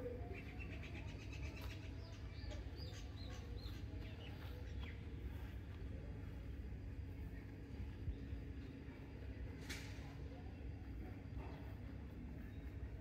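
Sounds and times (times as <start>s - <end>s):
outdoor low rumble: 0.0s - 13.0s
small birds chirping: 0.0s - 13.0s.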